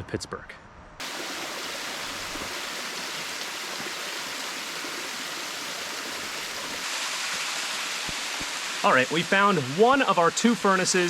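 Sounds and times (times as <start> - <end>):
creek water rushing: 1.0 - 11.0.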